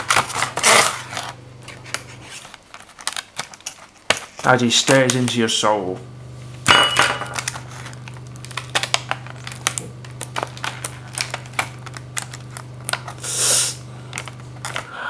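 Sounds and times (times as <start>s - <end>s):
steady low hum: 0.0s - 3.2s, 3.8s - 15.0s
tape tearing: 0.0s - 5.3s, 7.4s - 14.8s.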